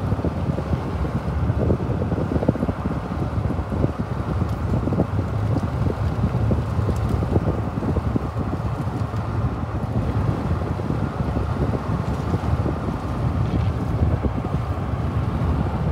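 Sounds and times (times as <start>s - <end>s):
car road noise: 0.0s - 15.9s
wind buffeting microphone: 0.0s - 15.9s.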